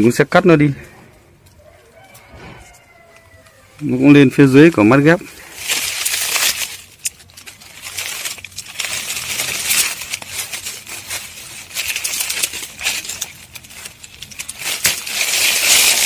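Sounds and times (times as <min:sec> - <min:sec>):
dry leaves rustling: 0:00.0 - 0:16.0.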